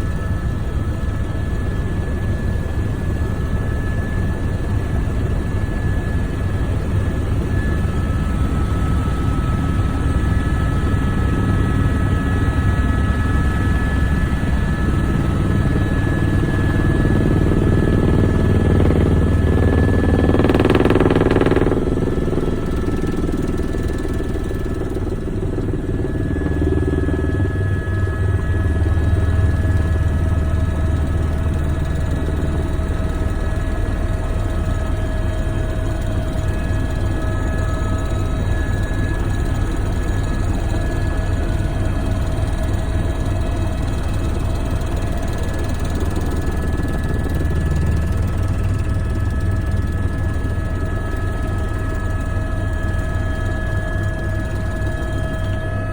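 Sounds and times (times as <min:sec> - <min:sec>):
helicopter rotor and engine drone: 0:00.0 - 0:55.9.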